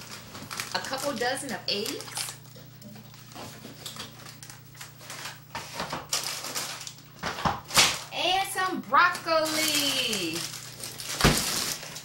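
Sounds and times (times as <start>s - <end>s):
plastic packaging rustling: 0.0s - 8.1s, 8.9s - 12.0s
low steady hum: 0.0s - 12.0s.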